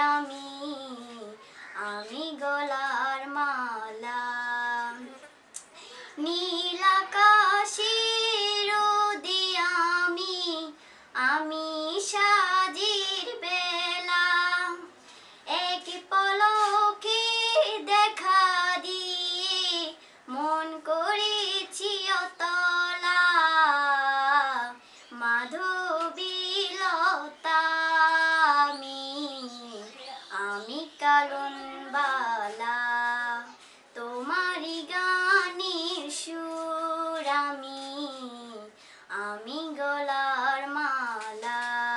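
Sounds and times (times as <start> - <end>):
woman singing unaccompanied: 0.0 - 41.9.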